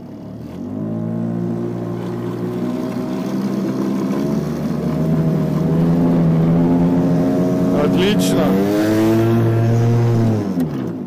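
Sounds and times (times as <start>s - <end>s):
outboard motor revving: 0.0s - 11.0s.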